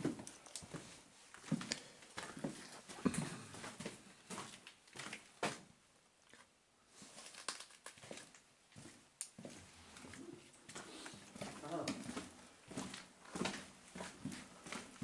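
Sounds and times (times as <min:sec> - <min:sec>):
footsteps on gritty floor: 0:00.0 - 0:05.7, 0:08.0 - 0:15.0.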